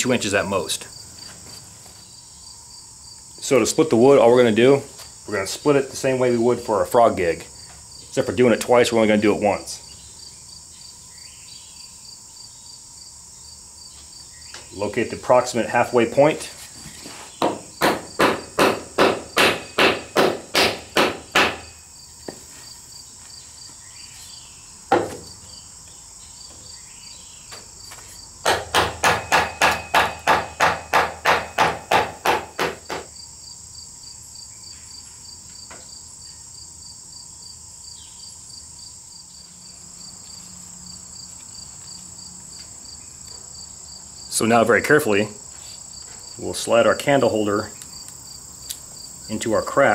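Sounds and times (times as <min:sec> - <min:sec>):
insects chirring: 0:00.0 - 0:49.9.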